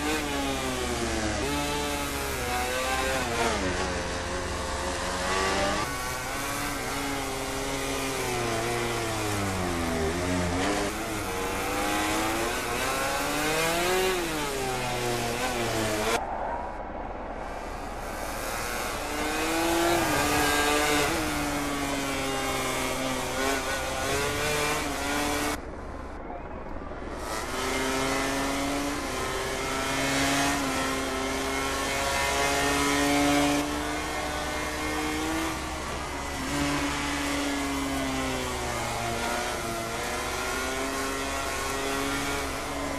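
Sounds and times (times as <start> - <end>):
racing motorcycle engine revving: 0.0 - 16.2, 17.6 - 25.6, 27.2 - 42.9.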